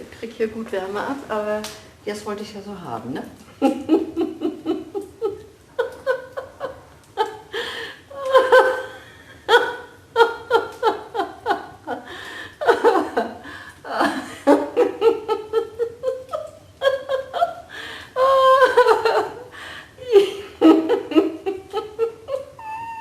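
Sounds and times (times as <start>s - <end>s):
person laughing: 3.7s - 23.0s.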